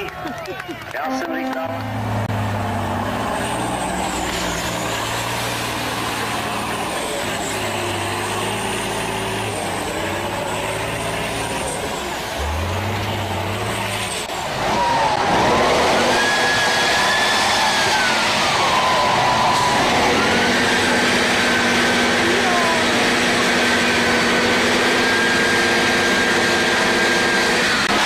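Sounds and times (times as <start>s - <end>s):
diesel truck engine under load: 1.8s - 28.0s.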